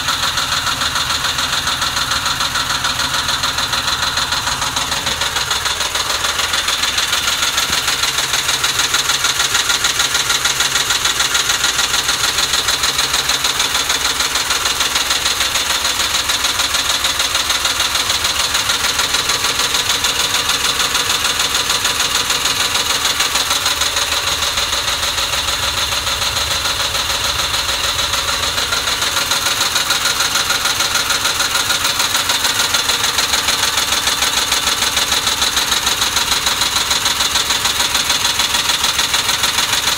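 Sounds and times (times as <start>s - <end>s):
car engine rough idling: 0.0s - 39.9s.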